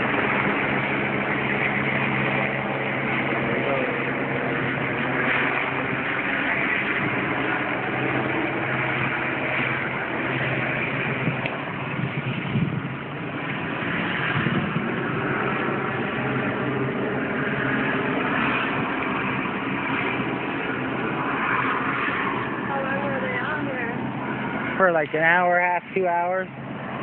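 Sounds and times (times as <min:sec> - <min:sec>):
helicopter hovering: 0:00.0 - 0:27.0.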